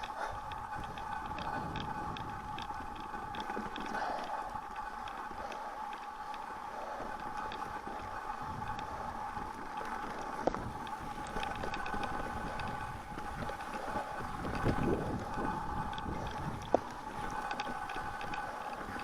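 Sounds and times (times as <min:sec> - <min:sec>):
high-pitched bike hum: 0:00.0 - 0:19.0
tyres rumbling on trail: 0:00.0 - 0:19.0.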